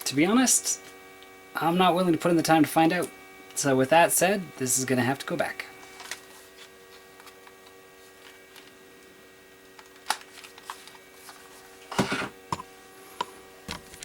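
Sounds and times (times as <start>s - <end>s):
printer electrical hum: 0.0s - 14.0s.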